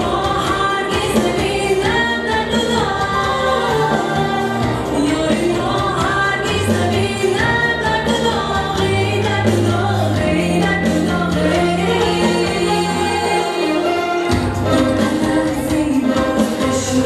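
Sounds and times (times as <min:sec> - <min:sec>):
instrumental backing with bass: 0:00.0 - 0:17.0
woman singing pop song: 0:00.0 - 0:17.0.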